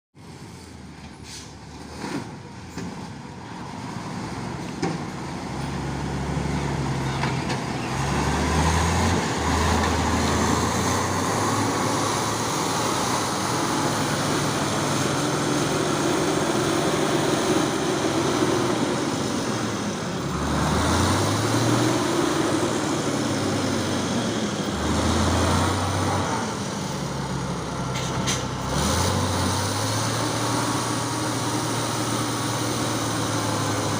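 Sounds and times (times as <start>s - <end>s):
truck diesel engine revving: 3.6s - 33.9s.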